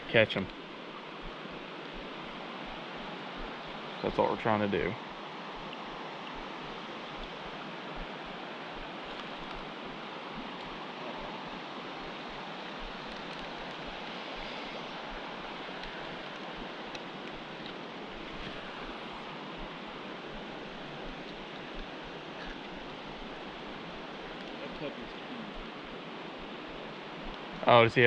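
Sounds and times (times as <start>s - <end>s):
creek water rushing over rocks: 0.0s - 28.0s.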